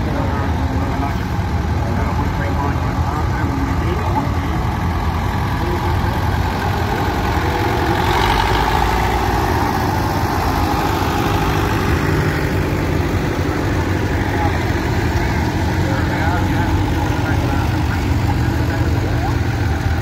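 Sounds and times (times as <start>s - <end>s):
tractor engines rumbling: 0.0s - 20.0s.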